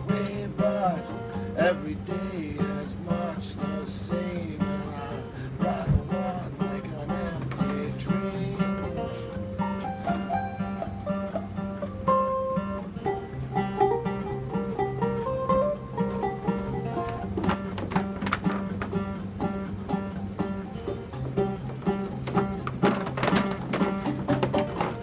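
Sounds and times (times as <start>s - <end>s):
acoustic guitars playing: 0.0s - 25.0s.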